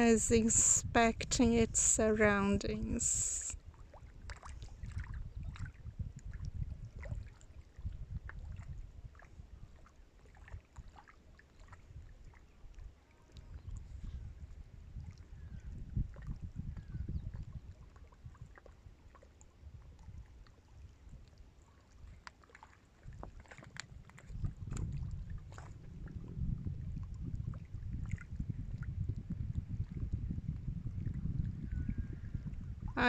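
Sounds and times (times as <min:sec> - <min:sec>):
wind buffeting microphone: 0:00.0 - 0:09.8, 0:11.7 - 0:19.0, 0:19.6 - 0:21.3, 0:23.0 - 0:33.0.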